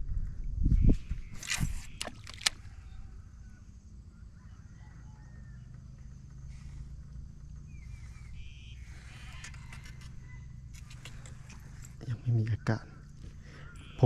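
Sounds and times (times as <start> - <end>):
steady low hum: 0.0 - 14.0
faint bird chirps: 0.7 - 14.0.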